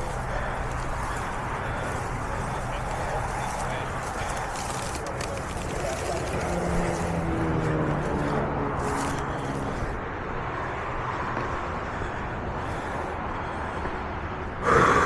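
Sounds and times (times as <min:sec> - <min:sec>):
wind and tyre noise: 0:00.0 - 0:15.0.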